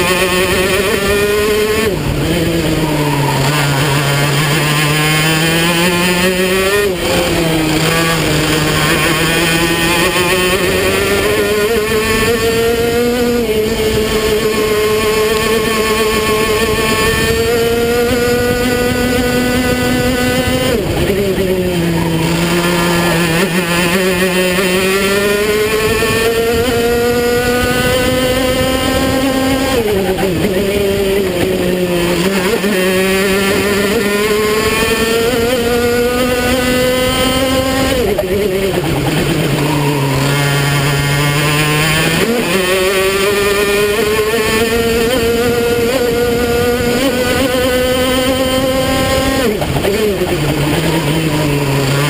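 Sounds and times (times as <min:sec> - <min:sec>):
two-stroke kart engine revving: 0:00.0 - 0:52.0.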